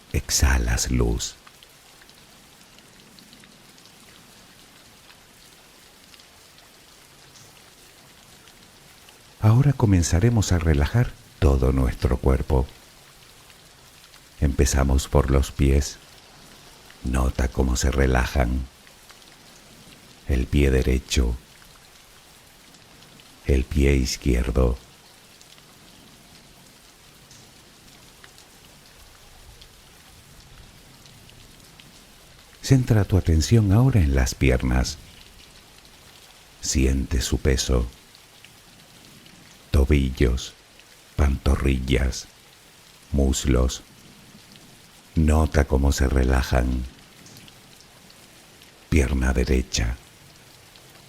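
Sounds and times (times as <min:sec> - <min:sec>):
soft steady rain: 0:00.0 - 0:51.0.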